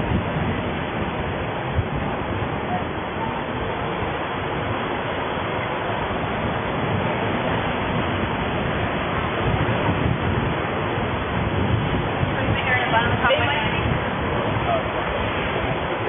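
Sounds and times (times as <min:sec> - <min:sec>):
low road rumble: 0:00.0 - 0:16.0
wind buffeting microphone: 0:00.0 - 0:16.0.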